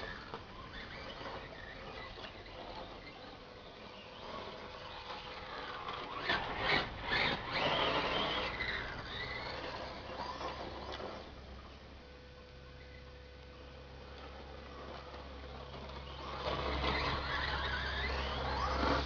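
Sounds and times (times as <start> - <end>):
electric toy car motor whining: 0.0 - 11.6, 14.1 - 19.0.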